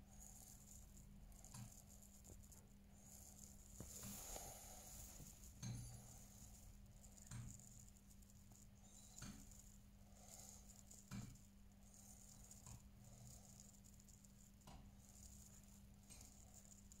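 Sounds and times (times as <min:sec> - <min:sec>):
quiet background hum: 0:00.0 - 0:17.0.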